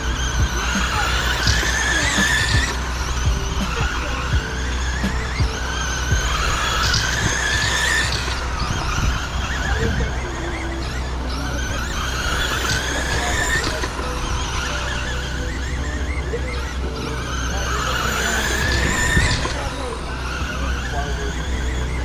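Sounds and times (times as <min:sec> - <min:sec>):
rc truck electric motors whining: 0:00.0 - 0:22.0.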